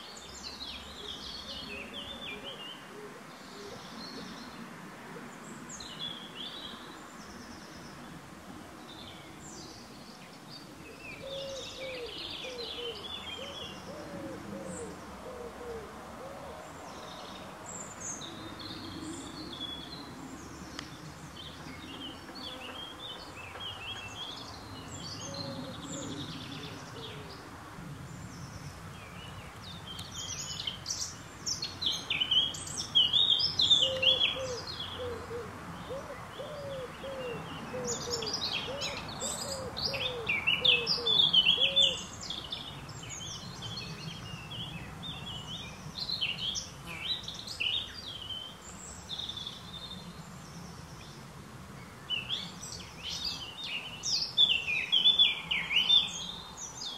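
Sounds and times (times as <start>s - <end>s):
outdoor background hiss: 0.0s - 56.9s
songbirds chirping: 0.0s - 56.9s.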